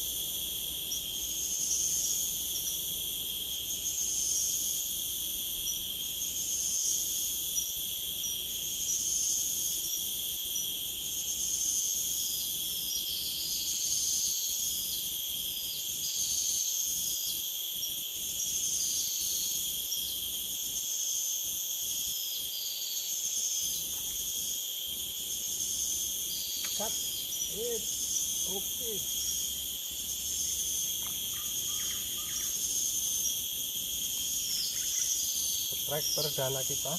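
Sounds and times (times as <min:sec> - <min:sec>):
insects shrilling: 0:00.0 - 0:36.9.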